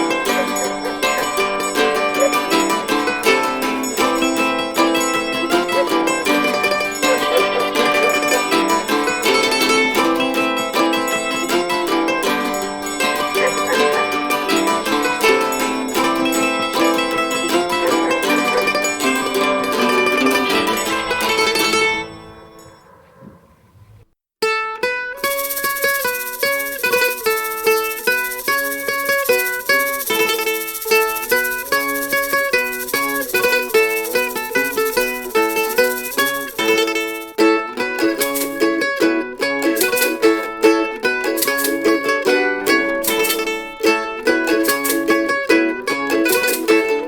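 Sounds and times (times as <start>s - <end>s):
mandolins playing instrumental tune: 0.0s - 22.8s, 24.4s - 47.0s.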